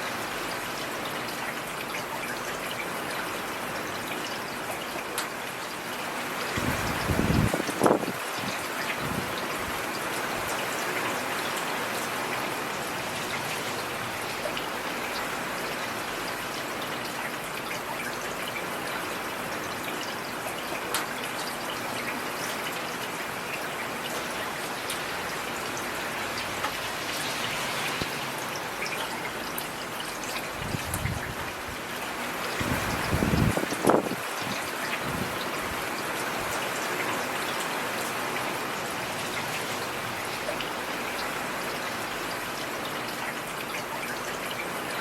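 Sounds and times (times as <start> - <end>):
heavy rain falling: 0.0 - 45.0.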